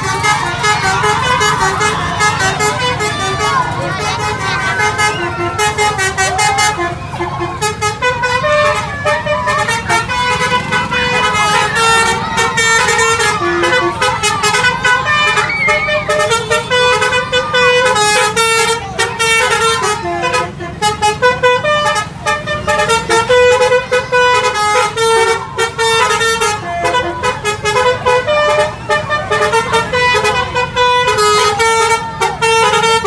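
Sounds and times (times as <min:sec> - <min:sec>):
musical air horn tune: 0:00.0 - 0:33.0.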